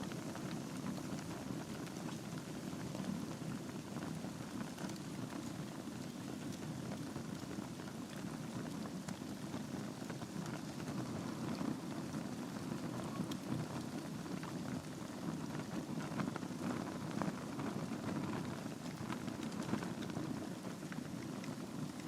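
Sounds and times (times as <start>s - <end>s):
fire crackling and popping: 0.0s - 22.0s
flames rushing in fireplace: 0.0s - 22.0s.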